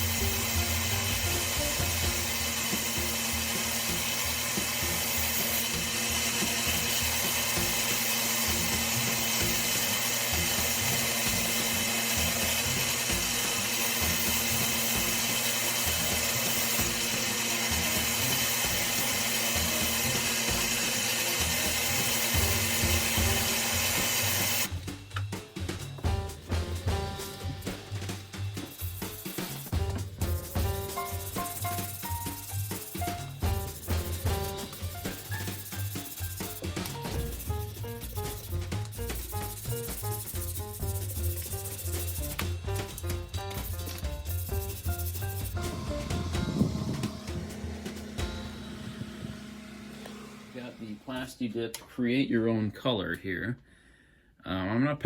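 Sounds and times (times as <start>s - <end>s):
power tool whirring: 0.0s - 24.7s, 30.4s - 51.3s
music with drum beat: 0.0s - 49.6s.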